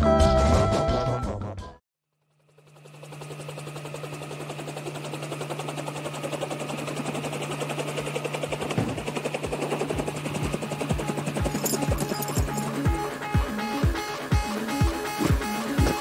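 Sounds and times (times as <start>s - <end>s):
helicopter rotor chopping: 2.3s - 16.0s.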